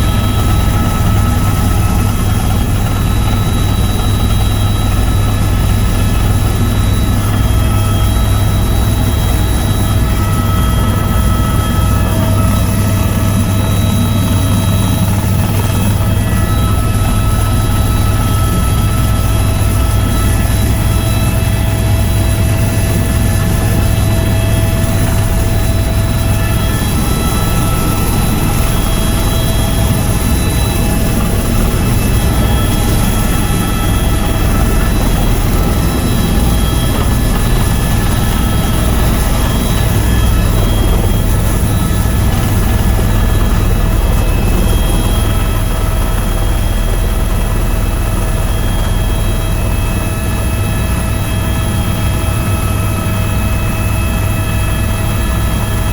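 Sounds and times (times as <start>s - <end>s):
helicopter rotor drone: 0.0s - 55.9s
turbine whine: 0.0s - 55.9s.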